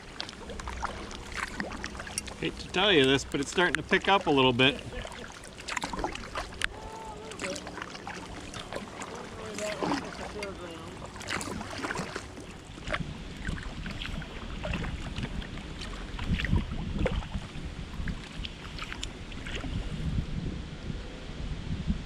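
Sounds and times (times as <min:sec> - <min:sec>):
paddle splashing in water: 0:00.0 - 0:20.1
wind rumbling on microphone: 0:00.0 - 0:22.0.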